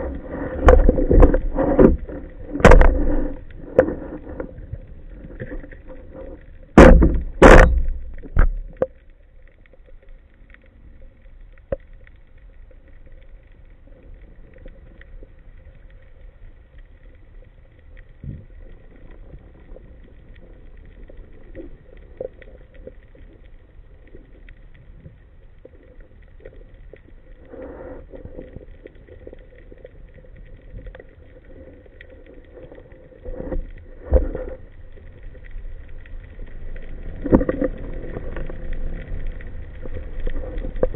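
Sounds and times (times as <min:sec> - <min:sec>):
faint boat motor hum underwater: 0:00.0 - 0:40.9
underwater rush of water and bubbles: 0:00.0 - 0:40.9.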